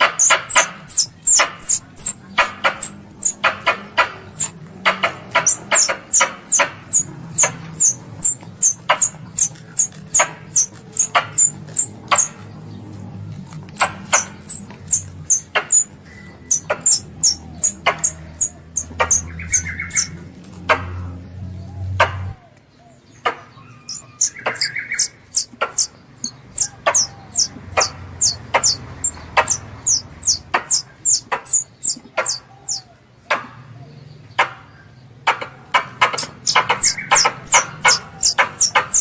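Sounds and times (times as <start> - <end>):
squirrel call chips: 0.0 - 12.5, 13.3 - 20.2, 23.6 - 32.9, 35.9 - 39.0.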